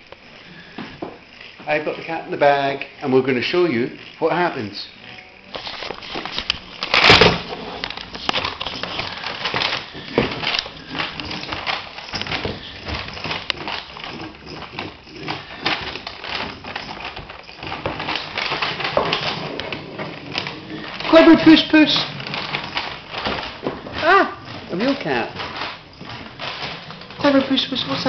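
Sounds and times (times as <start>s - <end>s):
paper bag crinkling and rustling: 4.6s - 28.0s.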